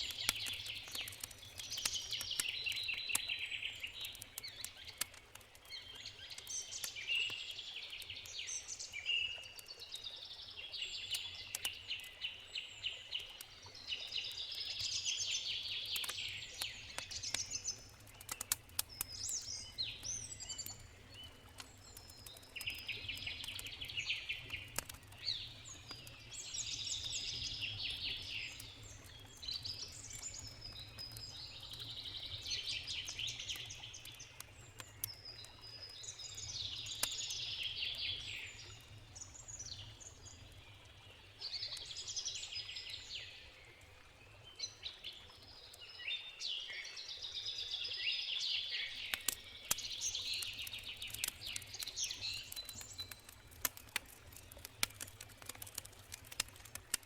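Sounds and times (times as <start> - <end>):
campfire crackling: 0.0 - 45.5, 48.4 - 57.0
songbird singing: 0.0 - 53.5.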